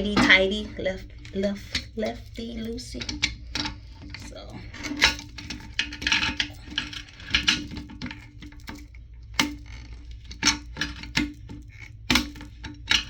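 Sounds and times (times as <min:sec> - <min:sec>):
low hum: 0:00.0 - 0:13.0
plastic nut clicking and scraping: 0:00.0 - 0:13.0.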